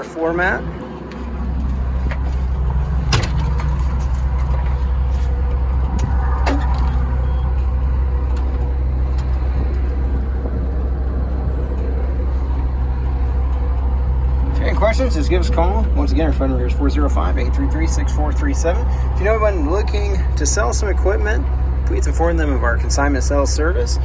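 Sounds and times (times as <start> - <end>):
excavator diesel engine idling: 0.0 - 24.0.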